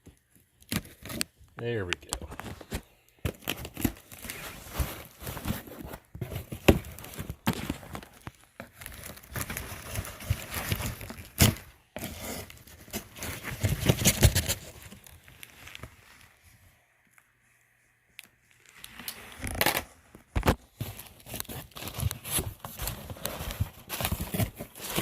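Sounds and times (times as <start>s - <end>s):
packaging crinkling and tearing: 0.2s - 16.2s, 18.5s - 25.0s.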